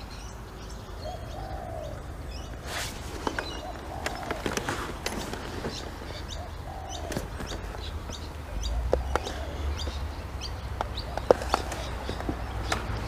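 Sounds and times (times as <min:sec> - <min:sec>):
birds chirping: 0:00.0 - 0:13.0
low curved bird call: 0:00.0 - 0:13.0.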